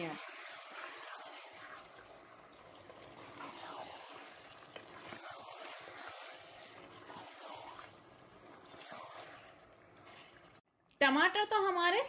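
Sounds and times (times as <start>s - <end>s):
food sizzling in pot: 0.0s - 10.6s
spatula stirring: 0.0s - 10.6s.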